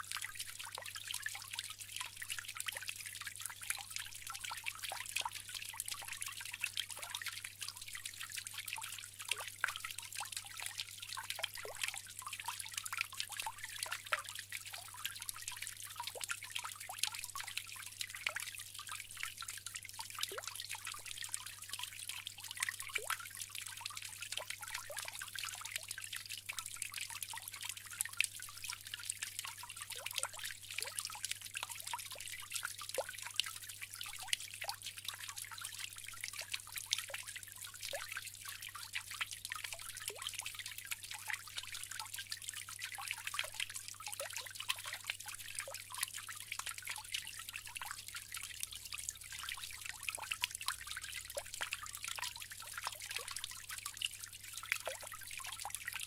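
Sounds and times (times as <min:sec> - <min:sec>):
water trickling into basin: 0:00.0 - 0:56.0.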